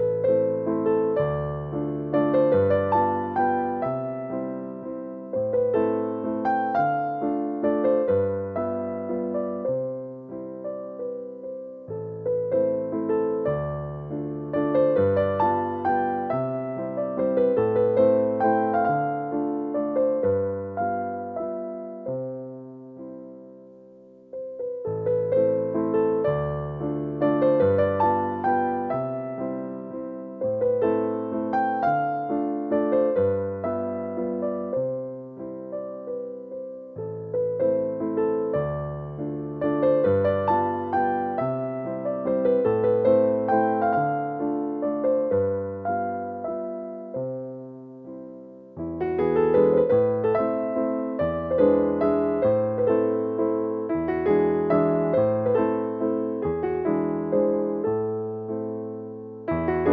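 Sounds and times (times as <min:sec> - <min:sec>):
gentle piano melody: 0:00.0 - 0:59.9.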